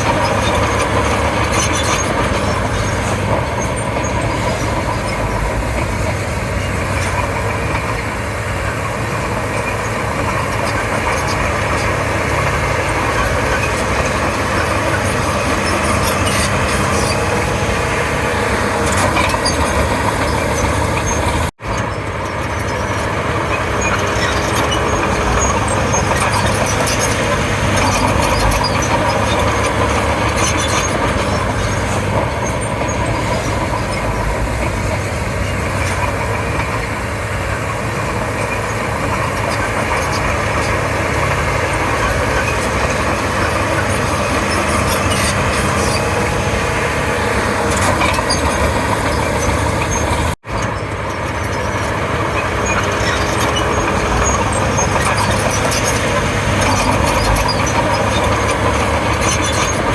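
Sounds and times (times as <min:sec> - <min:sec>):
bulldozer diesel engine: 0:00.0 - 0:59.9
metallic track clatter and squeal: 0:00.0 - 0:59.9.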